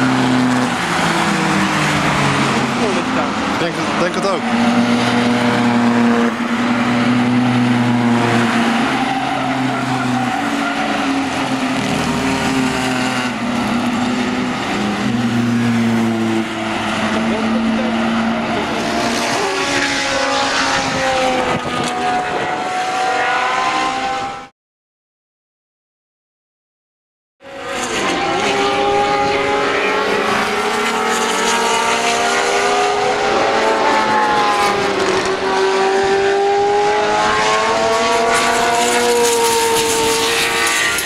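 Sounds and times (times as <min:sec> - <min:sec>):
race car engines revving: 0:00.0 - 0:24.5, 0:27.4 - 0:41.0.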